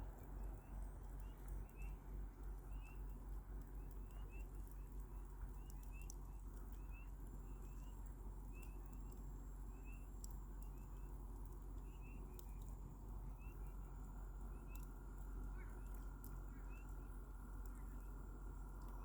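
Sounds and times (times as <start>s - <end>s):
campfire crackling pops: 0.1s - 18.1s.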